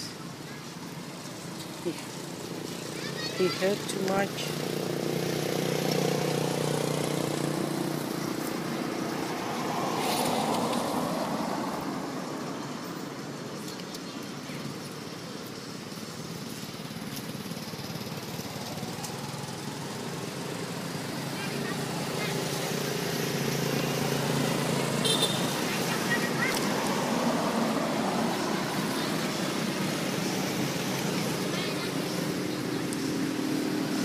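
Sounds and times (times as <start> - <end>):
engine humming: 0.0 - 34.0.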